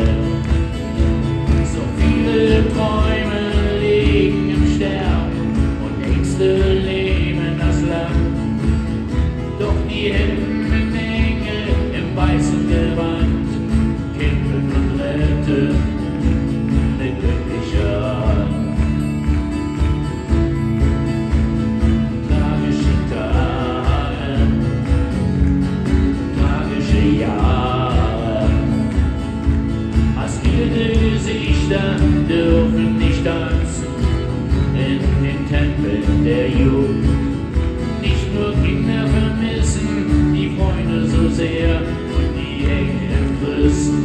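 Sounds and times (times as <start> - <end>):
acoustic guitars strumming: 0.0 - 44.0
man singing: 0.0 - 44.0.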